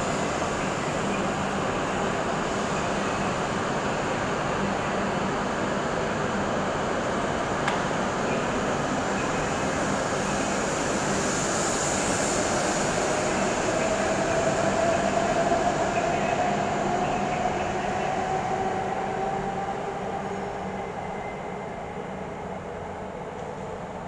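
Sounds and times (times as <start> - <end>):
train rolling noise: 0.0 - 24.0.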